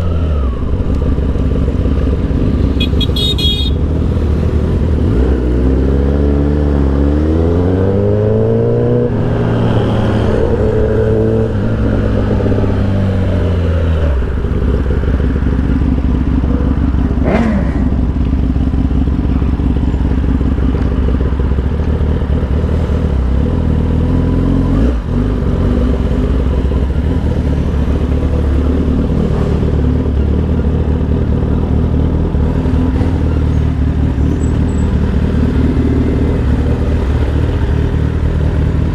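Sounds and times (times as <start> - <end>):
motorcycle engine running: 0.0 - 6.9, 9.0 - 38.9.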